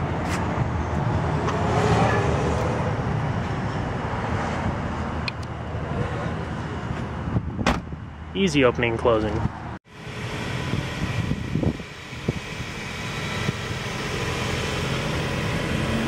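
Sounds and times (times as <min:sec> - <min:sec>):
low vehicle hum: 0:00.0 - 0:16.0.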